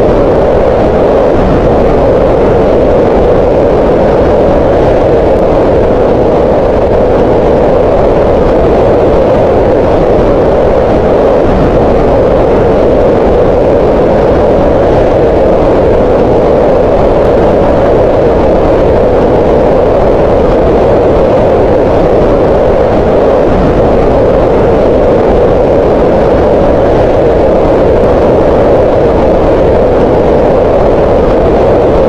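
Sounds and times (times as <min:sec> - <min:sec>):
steady synthetic noise: 0:00.0 - 0:32.0.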